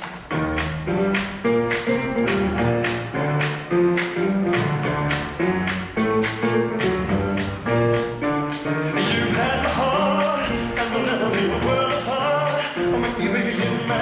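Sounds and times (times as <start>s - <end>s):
instrumental music with steady beat: 0.0s - 14.0s.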